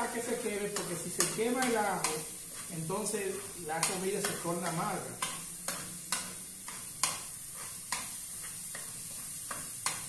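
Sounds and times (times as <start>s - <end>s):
garlic sizzling in oil: 0.0s - 10.0s.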